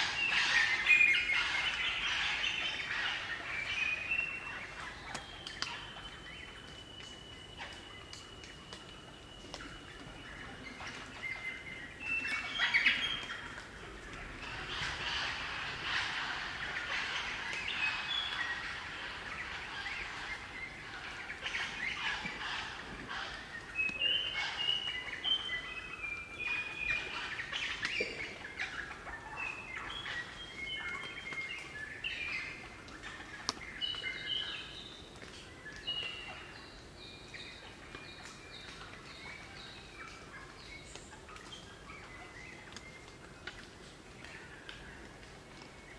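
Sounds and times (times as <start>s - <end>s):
birds whistling and chattering: 0.0s - 45.9s.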